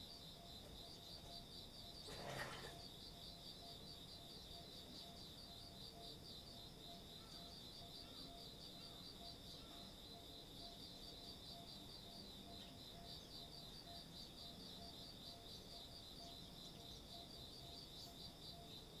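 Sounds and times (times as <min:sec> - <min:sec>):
faint insect chirring: 0:00.0 - 0:19.0.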